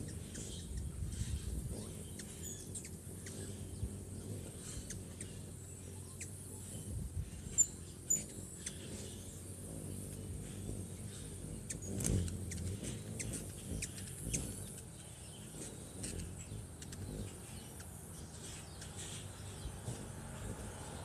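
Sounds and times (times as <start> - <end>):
hummingbird wings humming: 0.0 - 21.0.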